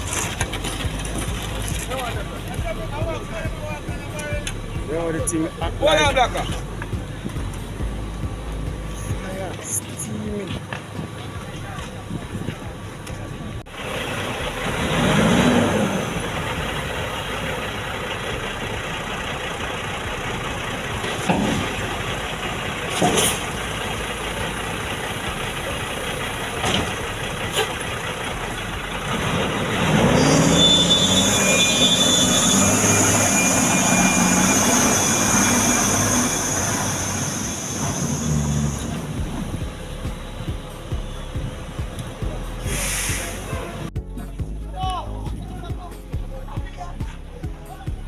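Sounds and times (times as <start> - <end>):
diesel machinery engine revving: 0.0 - 48.0.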